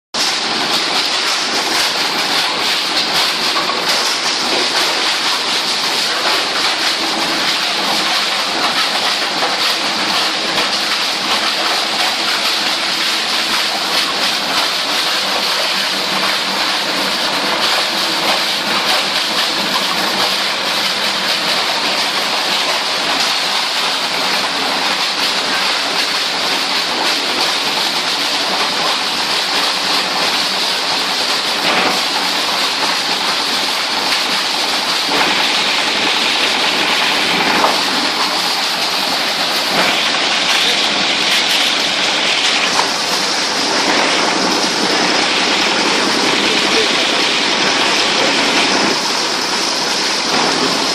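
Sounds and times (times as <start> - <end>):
plastic shredder chopping plastic: 0.2 - 50.9.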